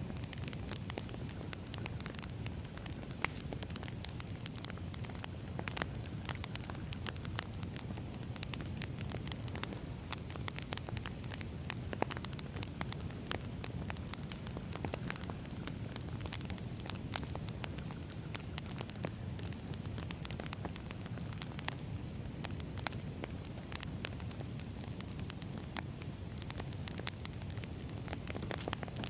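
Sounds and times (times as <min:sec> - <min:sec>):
burning logs crackling and popping: 0:00.0 - 0:29.0
wood fire rumbling: 0:00.0 - 0:29.0.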